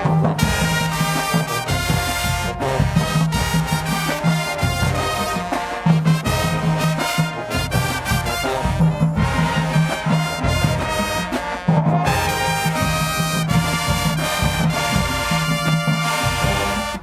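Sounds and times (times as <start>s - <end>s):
brass playing: 0.0s - 17.0s
drums beating: 0.0s - 17.0s
marching band playing: 0.0s - 17.0s.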